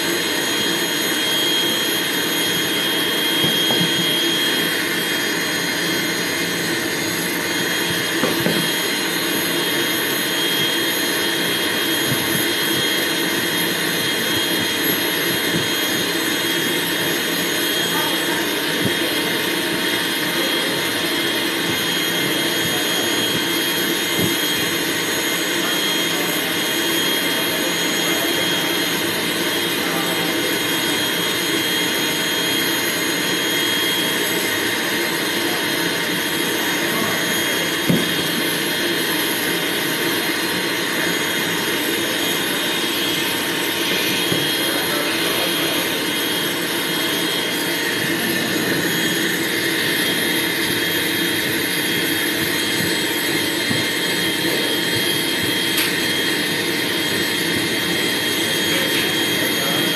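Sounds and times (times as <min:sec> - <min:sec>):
grooming dryer blowing air: 0:00.0 - 0:59.9.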